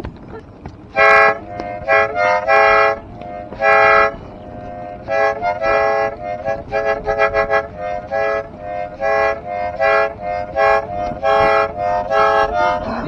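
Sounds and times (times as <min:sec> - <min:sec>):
toy train whistle toots: 0:01.0 - 0:13.0.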